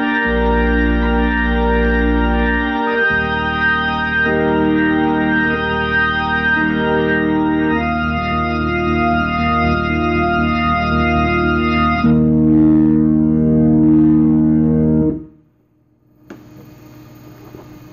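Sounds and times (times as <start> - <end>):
deep organ bass note: 0.0 - 15.4
organ playing sustained chords: 0.0 - 15.4.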